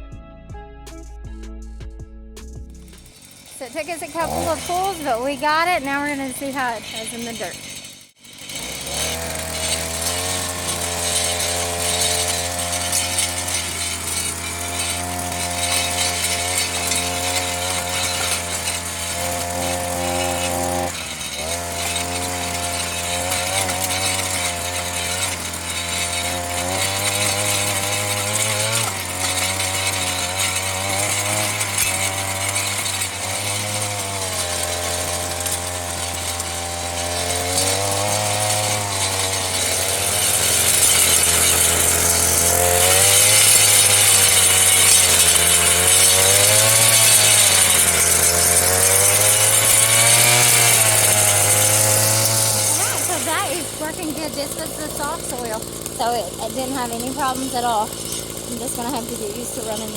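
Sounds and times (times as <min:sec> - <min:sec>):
tiller two-stroke engine running: 0:02.7 - 0:59.9.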